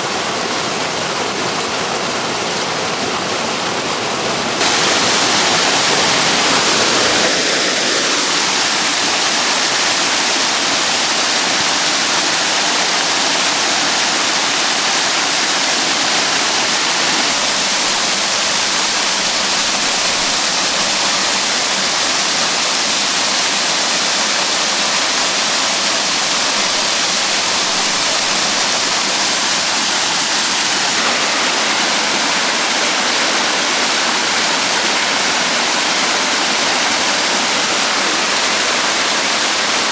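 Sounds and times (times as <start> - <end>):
waterfall pouring into a pool: 0.0 - 39.9.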